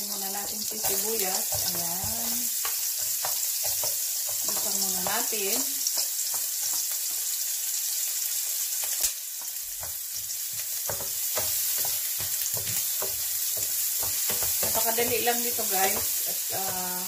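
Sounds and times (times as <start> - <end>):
onion sizzling in frying pan: 0.0 - 17.0.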